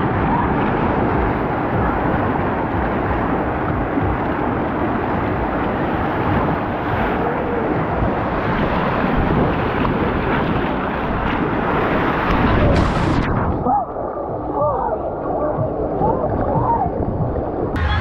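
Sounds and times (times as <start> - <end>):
wind buffeting microphone: 0.0 - 17.8
water rushing and churning: 0.0 - 18.0.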